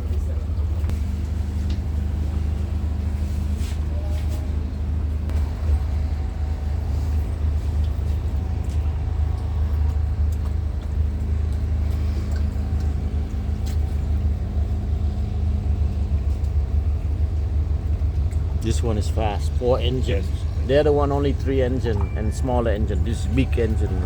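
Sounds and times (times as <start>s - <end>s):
outboard motors droning: 0.0s - 24.0s.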